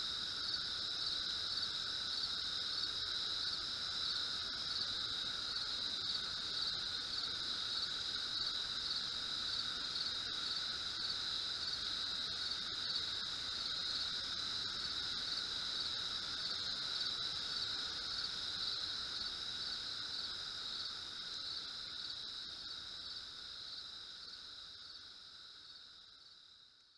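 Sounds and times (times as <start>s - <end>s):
insects chirping: 0.0s - 26.9s.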